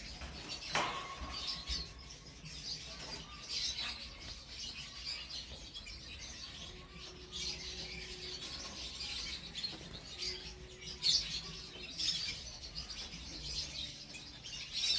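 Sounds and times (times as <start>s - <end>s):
canary chirping and trilling: 0.0s - 14.9s.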